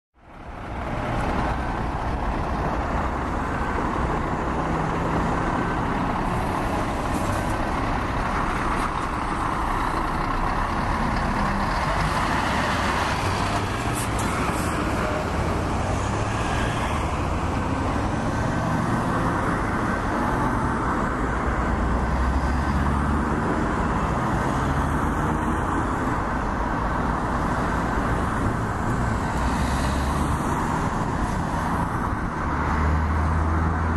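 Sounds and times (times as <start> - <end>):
highway traffic passing: 0.2 - 33.9.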